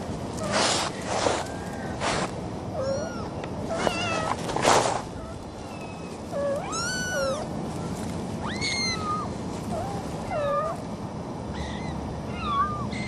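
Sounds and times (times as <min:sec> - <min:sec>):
kittens mewing: 0:00.4 - 0:10.8, 0:11.5 - 0:13.0.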